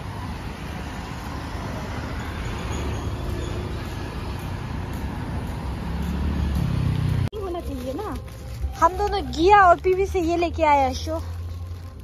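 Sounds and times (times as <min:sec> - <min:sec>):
cars and scooters passing: 0:00.0 - 0:12.0.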